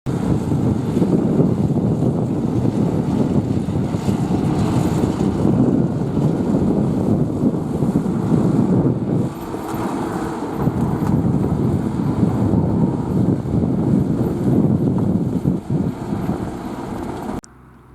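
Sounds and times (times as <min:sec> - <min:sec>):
tractor diesel engine under load: 0:00.0 - 0:17.9.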